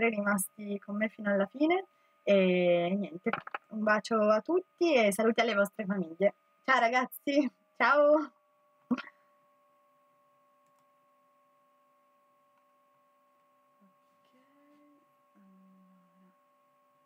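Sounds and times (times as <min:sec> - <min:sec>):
faint electrical whine: 0:00.0 - 0:17.0.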